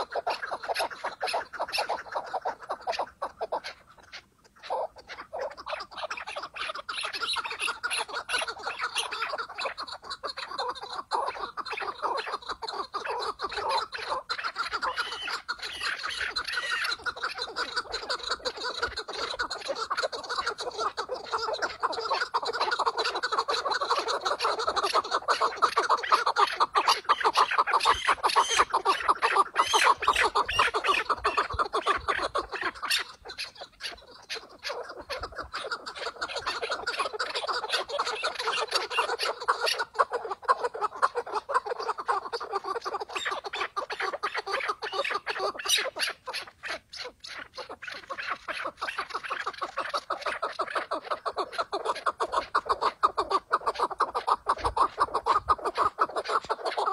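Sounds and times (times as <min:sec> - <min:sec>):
partridge chuckling calls: 0:00.0 - 0:56.9.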